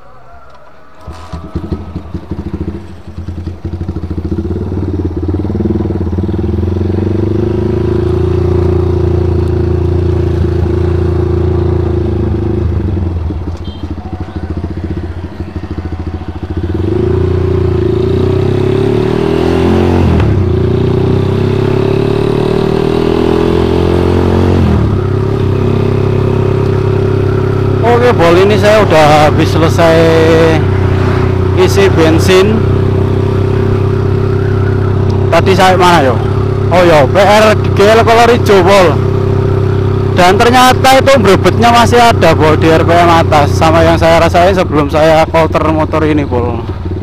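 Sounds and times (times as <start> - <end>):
motorcycle engine running: 1.0 - 47.0.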